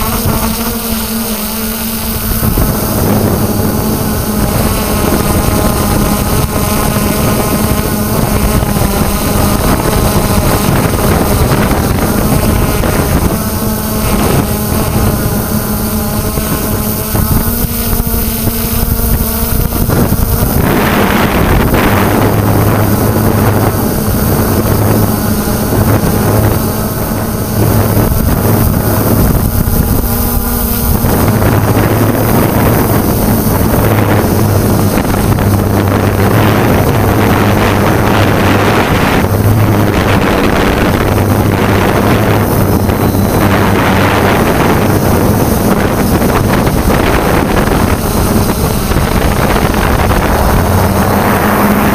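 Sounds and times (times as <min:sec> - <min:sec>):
drone motors and propellers: 0:00.0 - 0:51.9
wind on microphone: 0:00.0 - 0:51.9.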